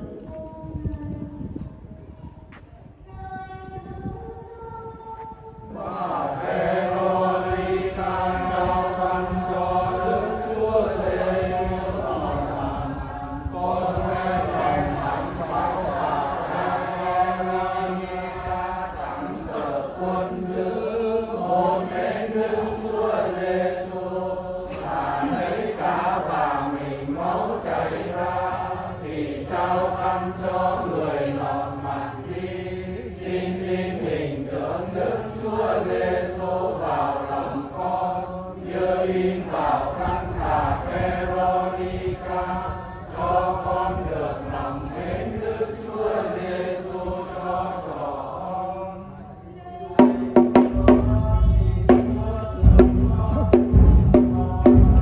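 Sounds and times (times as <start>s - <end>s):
voices chanting prayers in unison: 0.0s - 55.0s.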